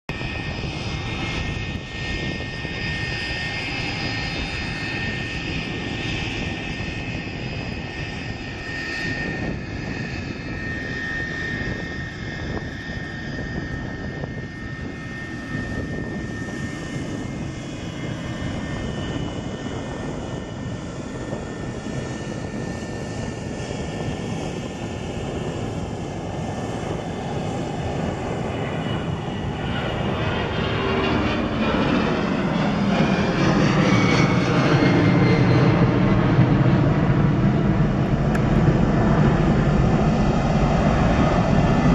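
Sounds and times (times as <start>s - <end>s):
jet engines at takeoff: 0.1s - 41.9s.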